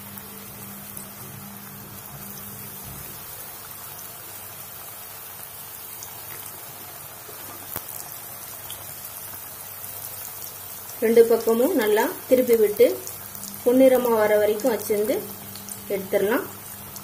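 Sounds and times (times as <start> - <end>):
deep-frying sizzle: 0.0 - 17.0.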